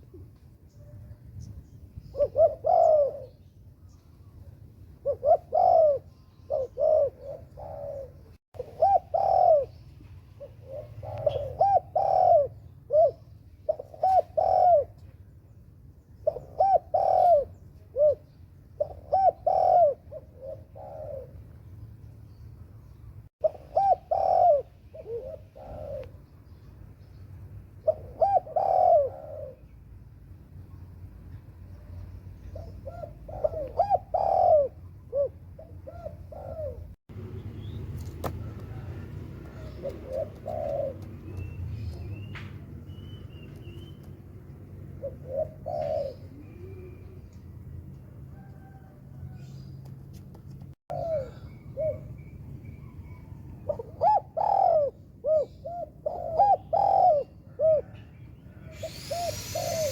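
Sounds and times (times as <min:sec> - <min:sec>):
dove cooing: 0:00.0 - 0:03.6, 0:04.8 - 0:15.1, 0:16.2 - 0:21.6, 0:23.4 - 0:26.7, 0:27.7 - 0:29.8, 0:31.7 - 0:37.0, 0:38.0 - 0:42.2, 0:43.6 - 0:49.7, 0:50.9 - 0:59.9.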